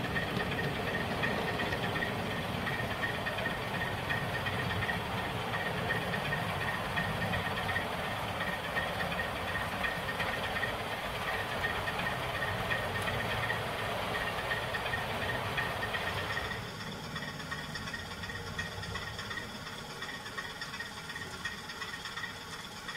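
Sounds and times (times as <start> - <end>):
faint pulsing high whine: 0.0 - 22.9
faint repeated clicking: 0.0 - 22.9
model train rumbling on track: 0.0 - 22.9.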